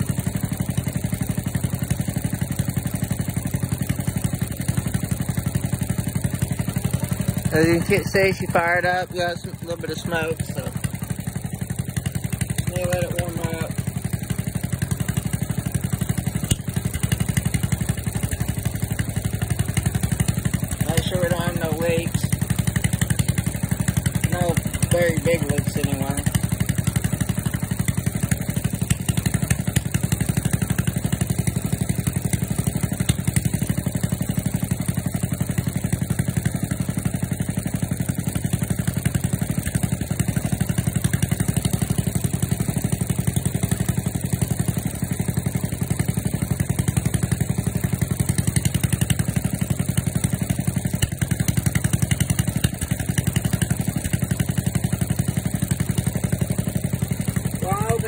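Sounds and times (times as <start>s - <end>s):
small tractor engine idling: 0.0s - 58.0s.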